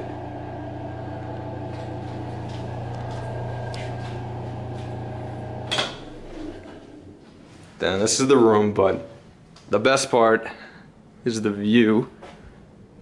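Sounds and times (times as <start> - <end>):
ventilation fan humming: 0.0 - 13.0.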